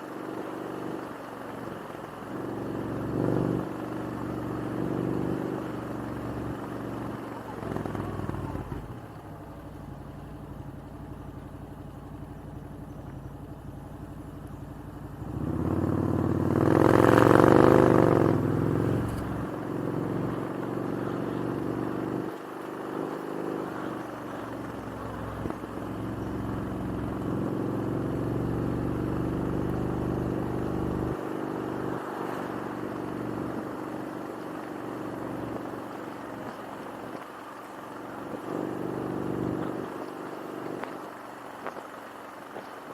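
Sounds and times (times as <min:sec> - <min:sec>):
motorcycle engine running: 0:00.0 - 0:42.9
road noise: 0:00.0 - 0:42.9.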